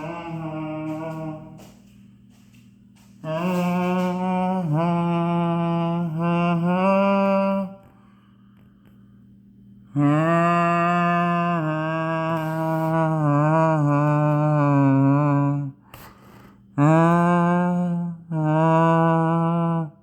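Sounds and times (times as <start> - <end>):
person humming long notes: 0.0 - 2.0, 3.1 - 8.0, 9.9 - 15.9, 16.8 - 20.0.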